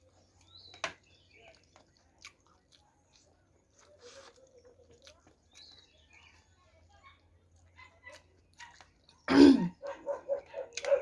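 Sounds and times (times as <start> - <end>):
person chewing food: 0.0 - 6.6, 7.5 - 11.0.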